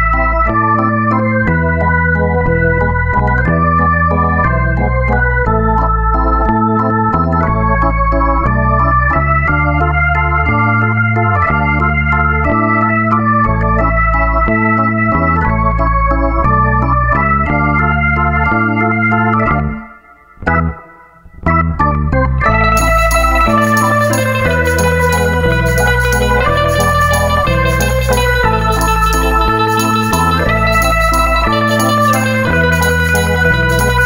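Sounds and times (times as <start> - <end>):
organ-like ringtone music: 0.0 - 34.0.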